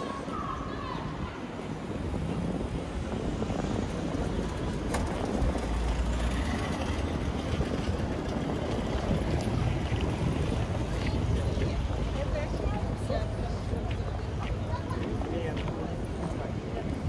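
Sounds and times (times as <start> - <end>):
passing vehicles rumbling: 0.0 - 17.0
traffic noise: 0.0 - 17.0.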